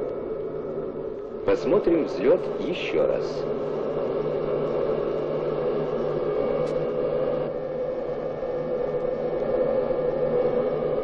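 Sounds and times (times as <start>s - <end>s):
jet engine and airflow noise: 0.0s - 11.0s.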